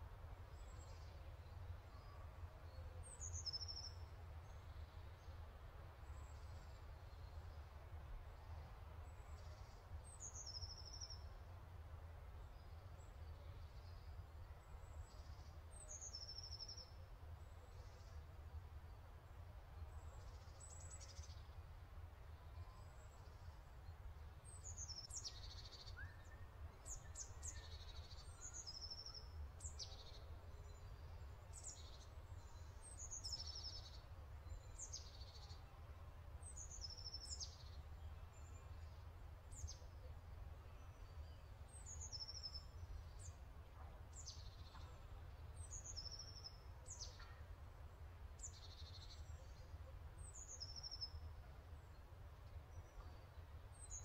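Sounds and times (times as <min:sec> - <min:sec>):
songbird chirps: 0:00.0 - 0:54.0.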